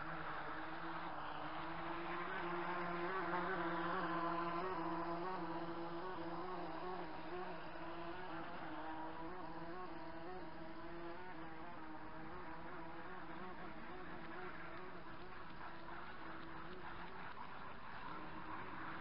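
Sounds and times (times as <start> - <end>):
model boat motor buzzing: 0.0 - 19.0.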